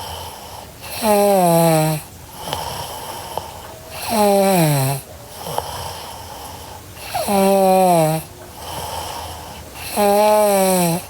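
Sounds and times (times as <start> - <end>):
girl snoring: 0.0 - 11.0
soft breathing: 0.0 - 11.0.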